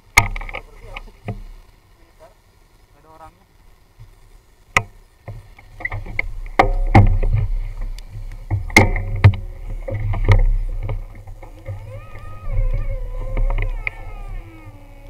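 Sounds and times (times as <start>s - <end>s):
motorcycle engines running low: 0.0s - 15.0s.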